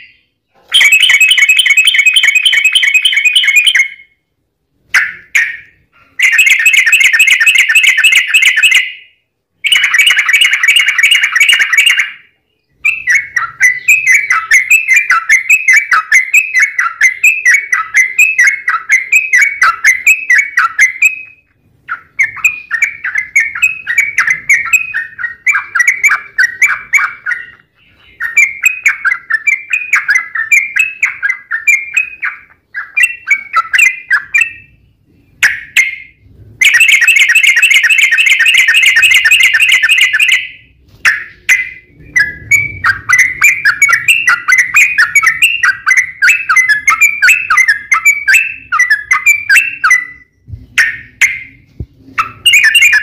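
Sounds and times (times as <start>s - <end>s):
bird singing chattering notes: 0.0s - 4.2s, 4.9s - 53.0s.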